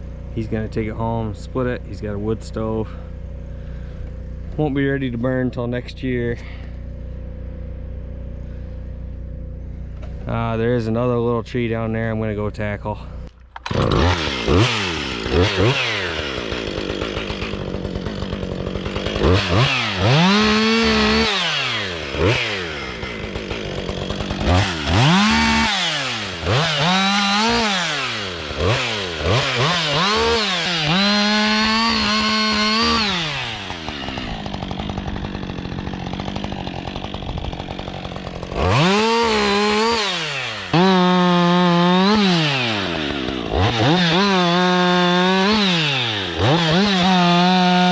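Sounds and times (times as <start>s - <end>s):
chainsaw revving: 0.0s - 5.0s, 13.5s - 47.9s.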